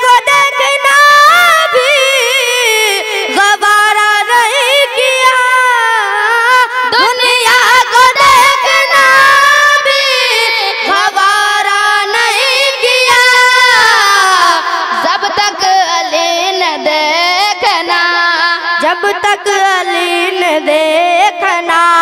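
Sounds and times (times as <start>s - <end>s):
boys singing into microphones: 0.0s - 22.0s.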